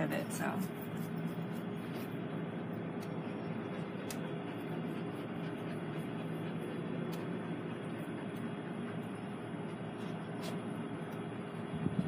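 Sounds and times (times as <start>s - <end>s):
rumbling background noise: 0.0s - 12.0s.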